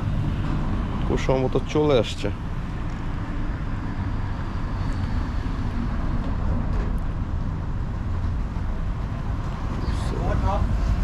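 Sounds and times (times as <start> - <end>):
street traffic passing: 0.0 - 11.0.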